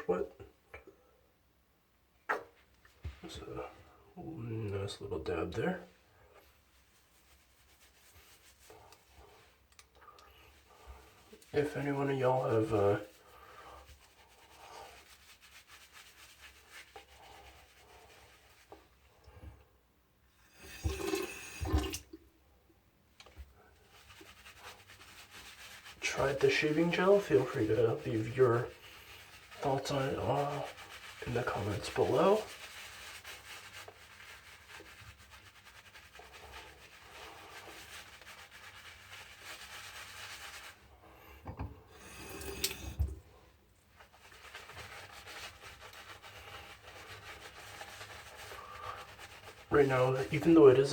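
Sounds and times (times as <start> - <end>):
shaving brush lathering gel: 4.6 - 19.4, 20.5 - 22.1, 23.2 - 43.3, 43.9 - 50.9.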